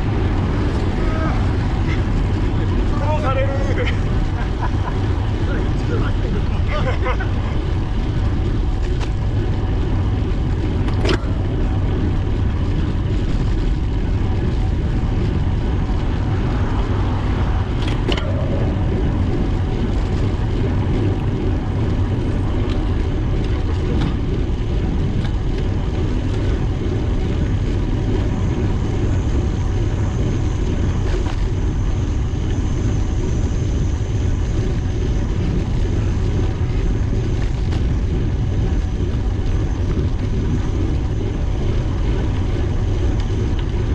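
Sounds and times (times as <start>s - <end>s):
wind and road rush: 0.0s - 43.9s.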